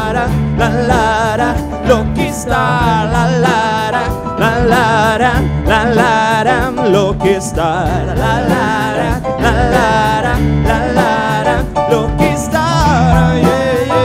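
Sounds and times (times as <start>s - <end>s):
bass: 0.0s - 14.0s
drums keeping a beat: 0.0s - 14.0s
live band: 0.0s - 14.0s
man singing with vibrato: 0.0s - 14.0s.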